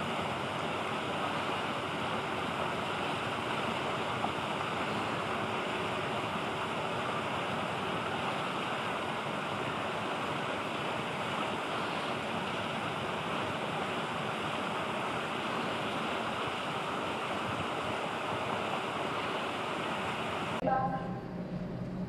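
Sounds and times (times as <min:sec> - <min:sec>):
steady rushing noise: 0:00.0 - 0:20.6.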